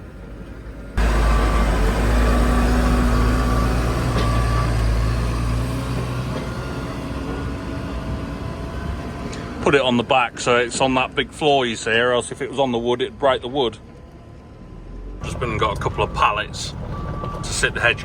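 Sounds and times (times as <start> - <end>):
heavy vehicle low rumble: 0.0 - 18.0.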